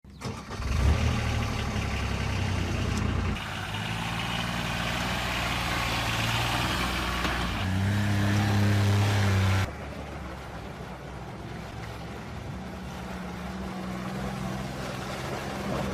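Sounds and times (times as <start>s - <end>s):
off-road vehicle engine driving: 0.1s - 15.9s.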